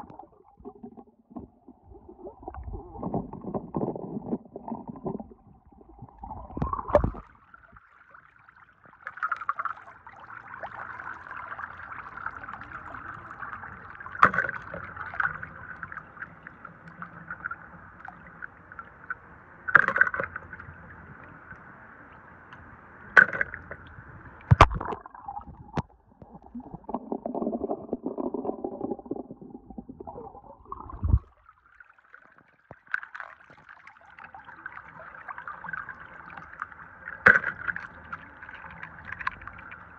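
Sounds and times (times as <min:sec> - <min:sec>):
water splashing and sloshing: 0:00.0 - 0:21.5, 0:22.5 - 0:39.9.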